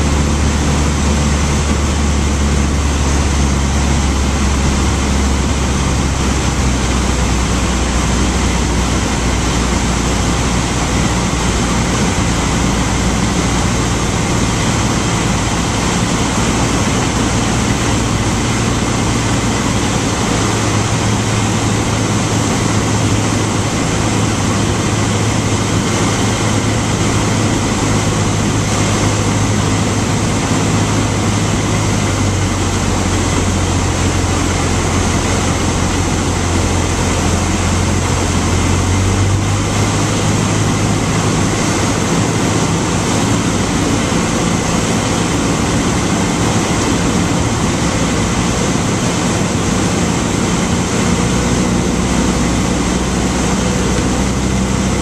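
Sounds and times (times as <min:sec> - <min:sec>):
aircraft engine and propeller drone: 0:00.0 - 0:55.0
wind noise: 0:00.0 - 0:55.0.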